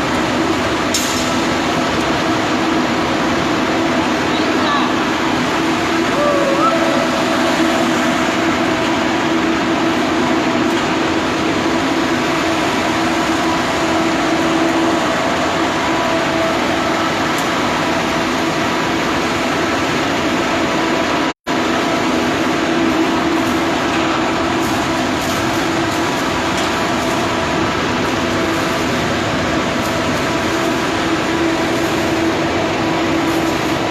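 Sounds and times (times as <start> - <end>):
machinery drone: 0.0 - 33.9.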